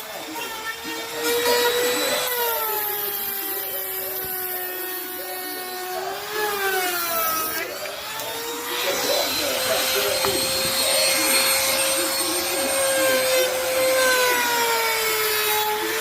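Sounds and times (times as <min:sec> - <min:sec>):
power tool whining while cutting: 0:00.0 - 0:16.0.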